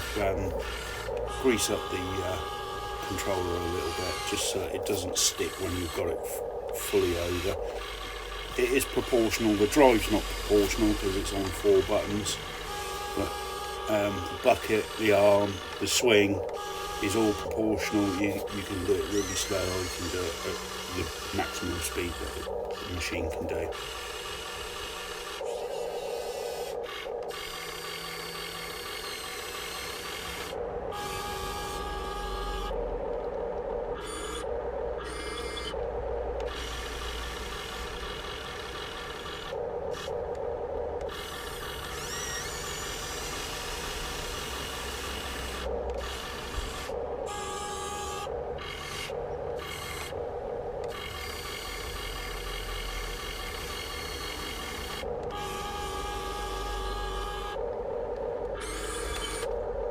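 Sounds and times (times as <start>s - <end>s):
servo and gear whirring: 0.0s - 32.7s, 41.0s - 50.2s, 50.8s - 57.6s, 58.6s - 59.6s
steady mechanical hum: 0.0s - 59.9s.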